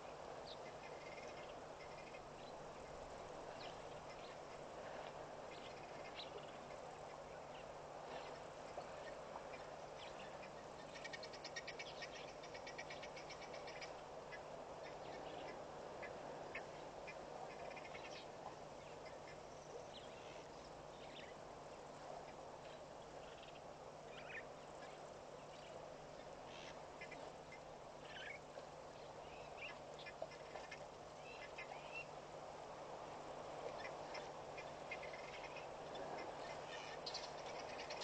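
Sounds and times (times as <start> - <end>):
low steady hum: 0.0 - 38.0
steady hiss: 0.0 - 38.0.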